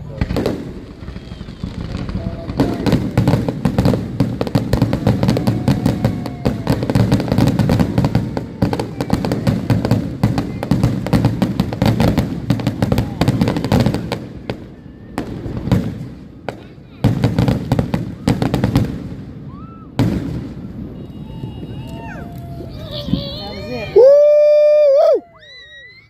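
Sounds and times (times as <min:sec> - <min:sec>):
fireworks bangs and crackles: 0:00.0 - 0:24.3.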